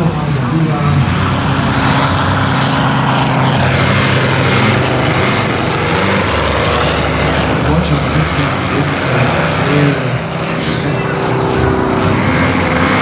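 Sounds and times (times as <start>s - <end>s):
model plane engine and propeller: 0.0s - 13.0s.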